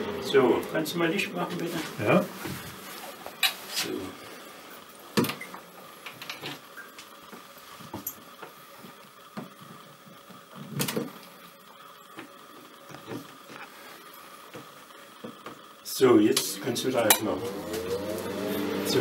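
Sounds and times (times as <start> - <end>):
faint electrical whine: 0.0 - 19.0.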